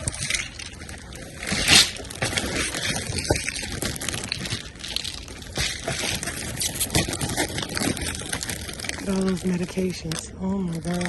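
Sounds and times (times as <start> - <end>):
rummaging in a dumpster: 0.0 - 11.0.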